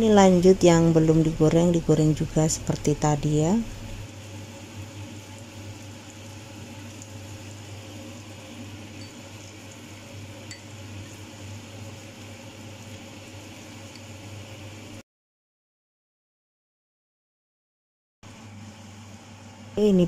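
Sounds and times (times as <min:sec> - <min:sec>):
low hum and hiss: 0:00.0 - 0:15.0, 0:18.3 - 0:20.0.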